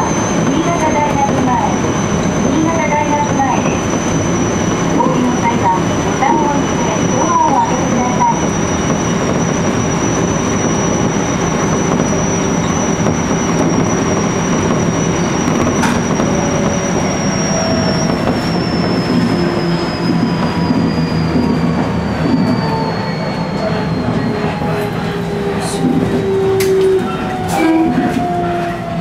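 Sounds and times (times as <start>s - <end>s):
thin high train whine: 0.0s - 29.0s
train wheels rumbling on rail: 0.0s - 29.0s.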